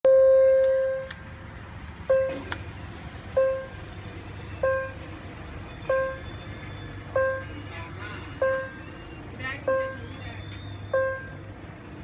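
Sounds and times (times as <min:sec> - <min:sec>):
level crossing warning bell: 0:00.1 - 0:02.6, 0:03.3 - 0:11.6
low traffic rumble: 0:00.1 - 0:12.0.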